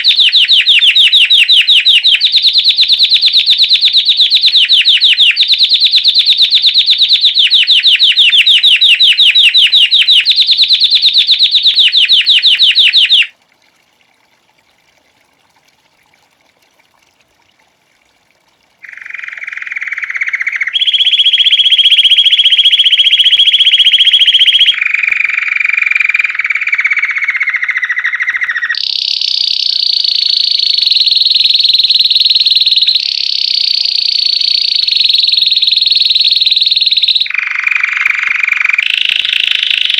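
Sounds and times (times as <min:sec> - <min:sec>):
canary singing trills: 0:00.0 - 0:13.3, 0:18.8 - 0:39.9.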